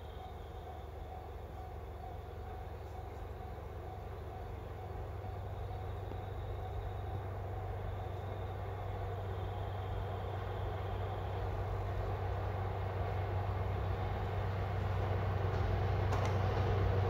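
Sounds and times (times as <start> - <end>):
distant locomotive engine drone: 0.0 - 17.0.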